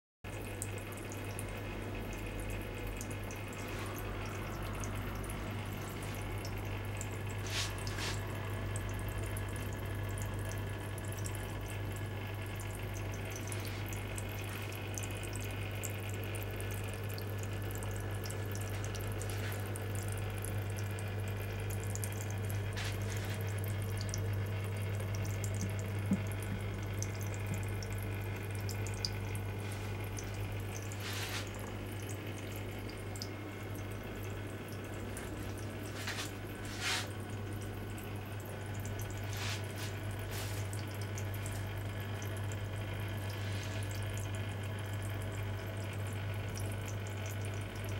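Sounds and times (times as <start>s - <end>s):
drips ticking: 0.3s - 47.9s
low pump hum: 0.3s - 47.9s
water trickling and splashing: 0.4s - 47.9s.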